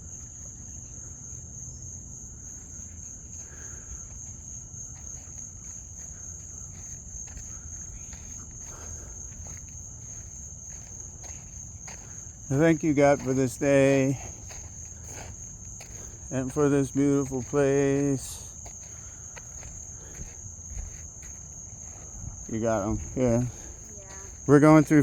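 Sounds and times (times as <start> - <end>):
crickets trilling: 0.0 - 25.0
faint footsteps on trail: 0.0 - 25.0.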